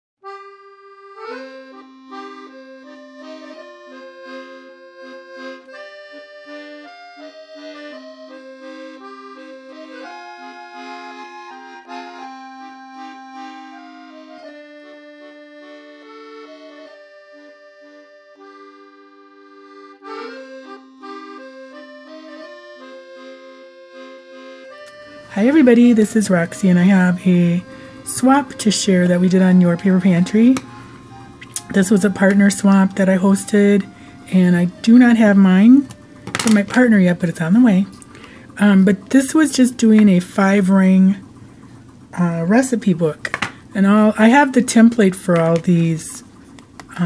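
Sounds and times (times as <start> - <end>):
instrumental music: 0.2 - 47.0.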